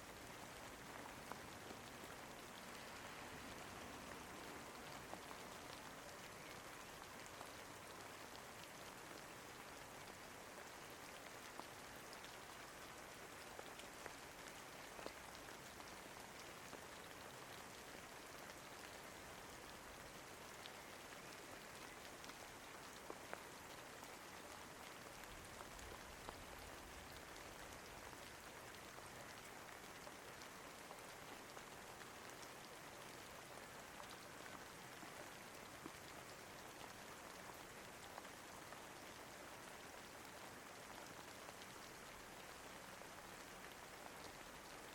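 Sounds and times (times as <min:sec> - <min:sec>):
faint rain hiss: 0:00.0 - 0:44.9.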